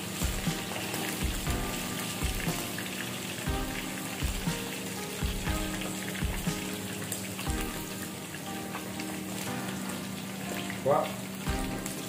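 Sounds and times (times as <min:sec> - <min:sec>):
background music with beat: 0:00.0 - 0:12.0
chicken frying in oil: 0:00.0 - 0:12.0.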